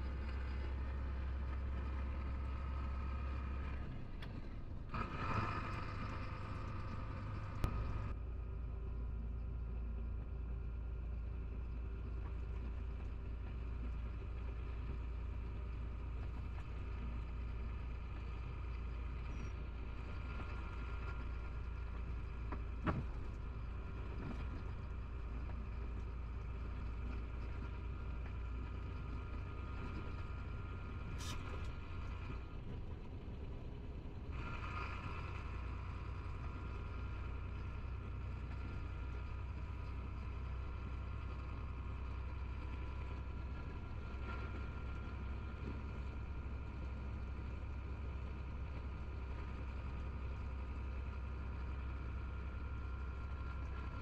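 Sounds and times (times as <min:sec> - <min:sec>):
truck engine and road drone: 0:00.0 - 0:54.0.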